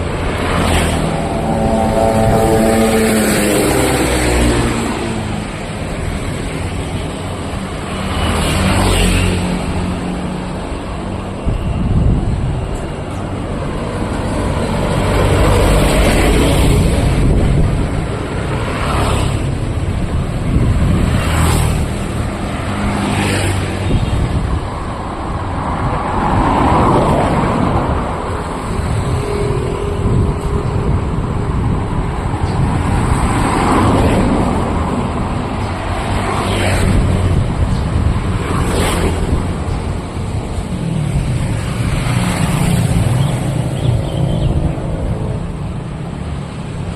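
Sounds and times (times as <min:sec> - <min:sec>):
low traffic rumble: 0:00.0 - 0:46.9
vehicles passing: 0:00.0 - 0:46.9.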